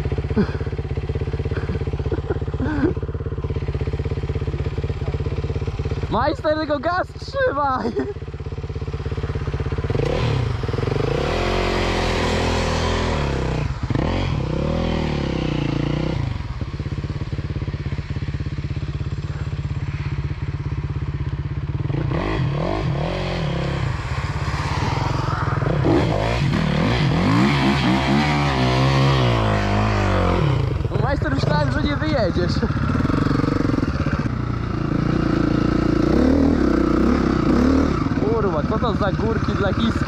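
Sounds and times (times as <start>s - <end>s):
dirt bike engine running: 0.0s - 40.0s
motocross bike revving: 0.0s - 40.0s.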